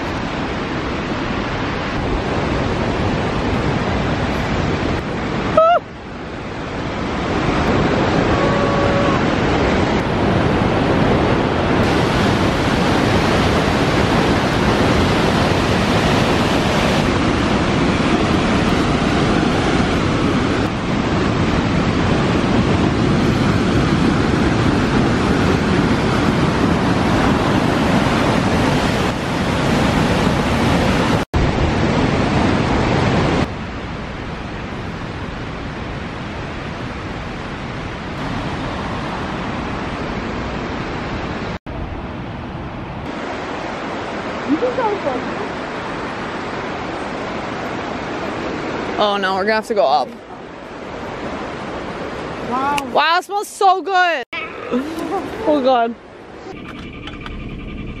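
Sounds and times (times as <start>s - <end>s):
waterfall rushing: 0.0s - 34.2s, 37.2s - 41.8s, 43.0s - 56.5s.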